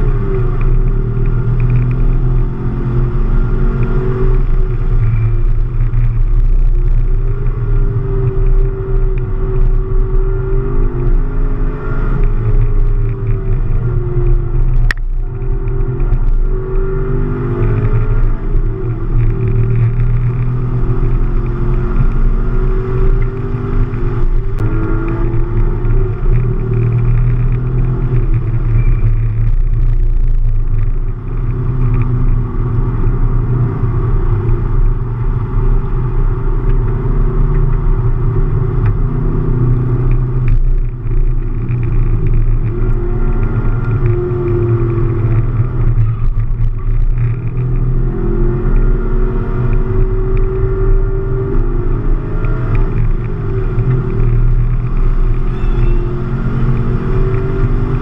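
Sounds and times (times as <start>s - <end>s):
car engine revving inside cabin: 0.0s - 58.0s.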